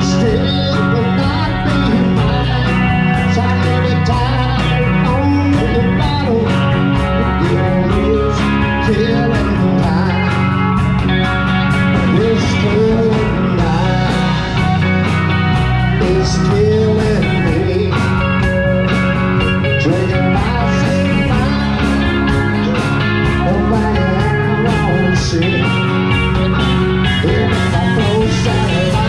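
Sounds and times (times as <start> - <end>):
electric guitars: 0.0 - 29.0.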